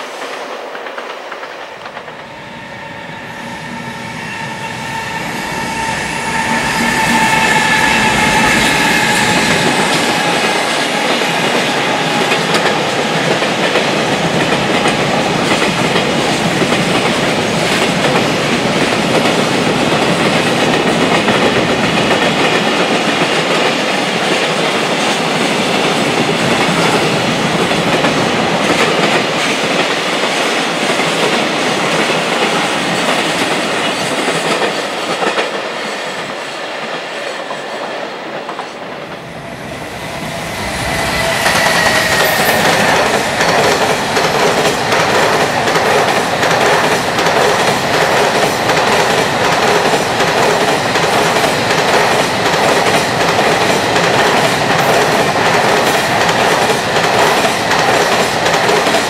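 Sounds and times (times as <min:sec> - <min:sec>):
freight train wheels clattering: 0:04.8 - 0:37.7, 0:38.3 - 0:59.0.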